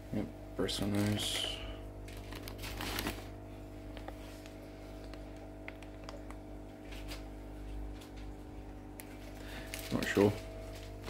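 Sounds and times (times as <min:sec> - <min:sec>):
low electrical hum: 0:00.0 - 0:11.0
plastic bags rustling: 0:00.9 - 0:11.0.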